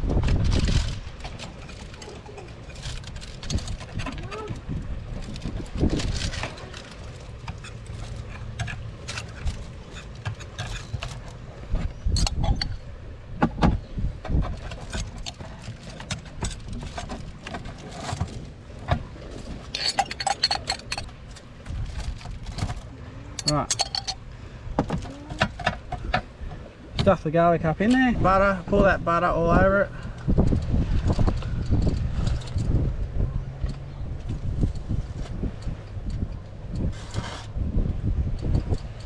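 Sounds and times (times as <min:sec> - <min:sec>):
wind rumble on microphone: 0:00.0 - 0:39.0.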